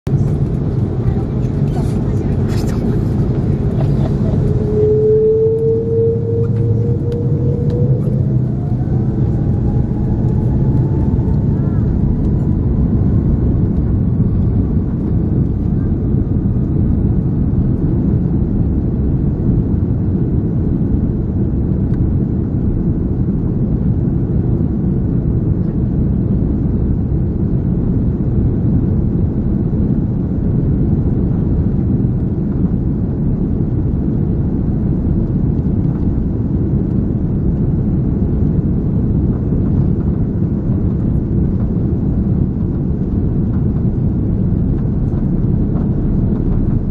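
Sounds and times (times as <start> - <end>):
jet engines deep rumble: 0.0 - 46.9.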